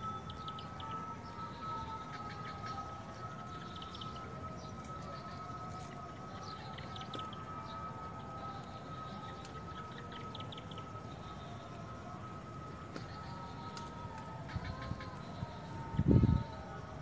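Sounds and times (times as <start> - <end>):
steady high-pitched tones: 0.0 - 17.0.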